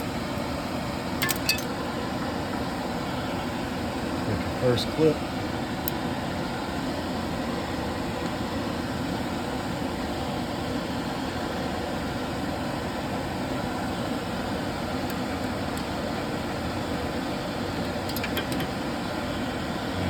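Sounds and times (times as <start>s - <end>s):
fan rushing noise: 0.0s - 20.0s.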